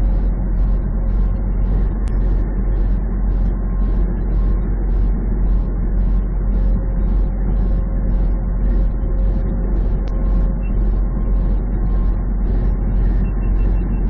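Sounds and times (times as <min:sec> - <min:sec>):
truck engine drone: 0:00.0 - 0:14.0.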